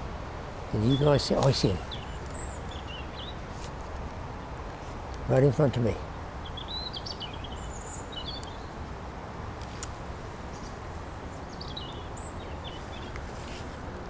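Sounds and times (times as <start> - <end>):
small birds chirping: 0.0 - 8.9, 9.6 - 14.0.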